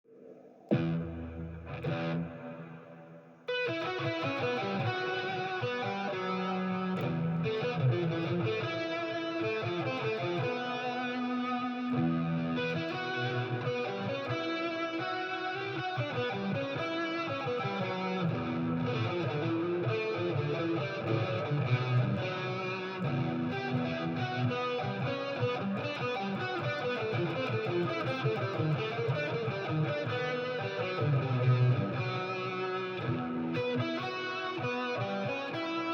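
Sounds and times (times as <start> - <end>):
electric guitar with filter effect: 0.0 - 35.9.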